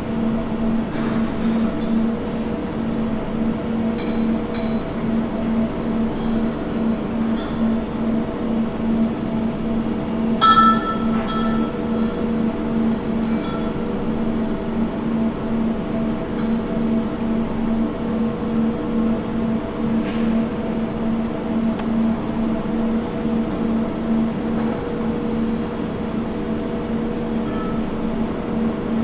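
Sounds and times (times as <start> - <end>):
machinery humming: 0.0 - 29.0.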